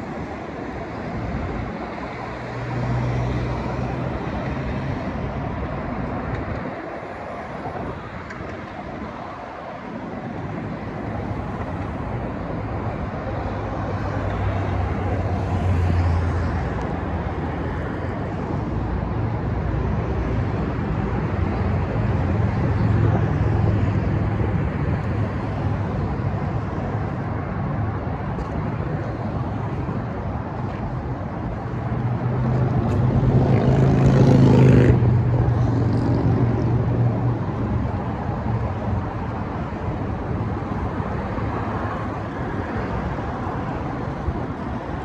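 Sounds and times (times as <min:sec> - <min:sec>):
cars driving past: 0:00.0 - 0:45.0.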